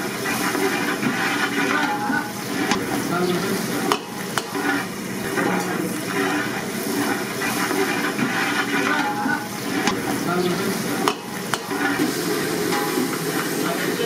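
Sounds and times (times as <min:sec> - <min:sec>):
chicken sizzling in a pan: 0:00.0 - 0:14.0
background voices talking: 0:00.6 - 0:14.0.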